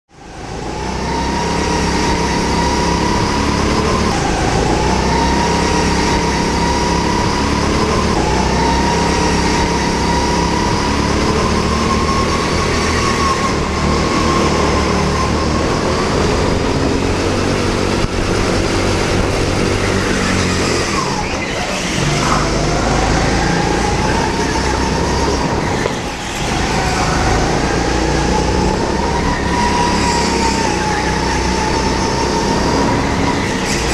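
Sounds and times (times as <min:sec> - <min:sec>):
go-kart engine whining: 0:00.1 - 0:33.9.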